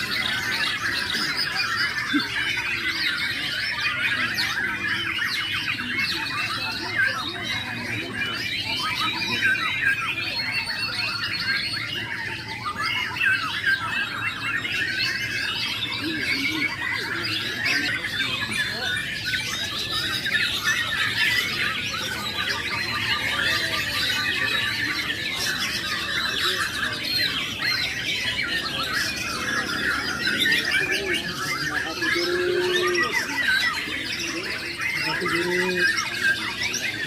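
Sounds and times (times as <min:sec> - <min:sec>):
caged songbirds singing: 0:00.0 - 0:37.0.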